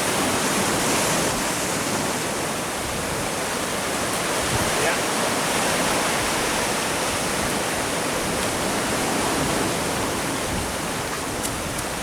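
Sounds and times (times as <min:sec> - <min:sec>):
sea surf breaking on shore: 0:00.0 - 0:12.0.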